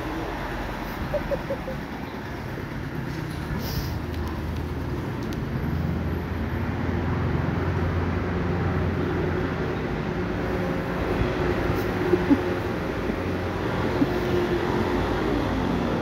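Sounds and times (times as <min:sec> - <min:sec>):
street noise: 0:00.0 - 0:16.0
vehicle engine rumbling: 0:00.0 - 0:16.0.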